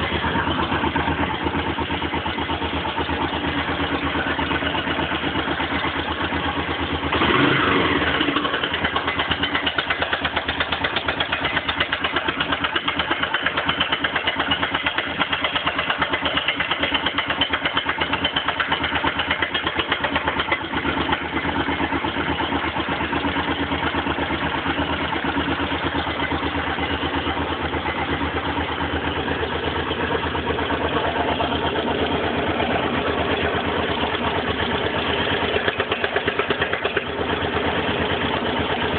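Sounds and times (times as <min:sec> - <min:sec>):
motorcycle engine knocking idle: 0:00.0 - 0:38.9.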